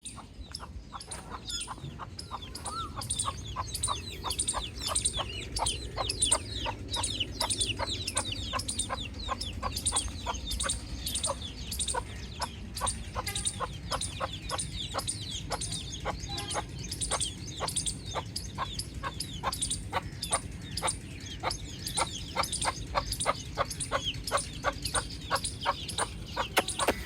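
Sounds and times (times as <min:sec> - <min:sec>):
baby chicks peeping: 0:00.0 - 0:27.0.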